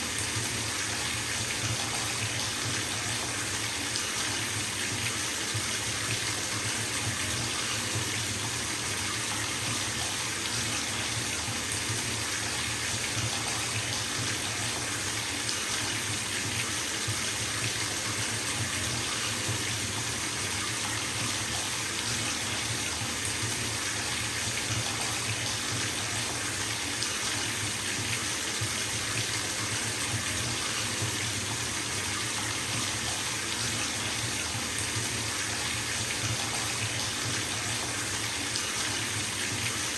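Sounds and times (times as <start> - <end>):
tap filling bathtub: 0.0 - 39.9.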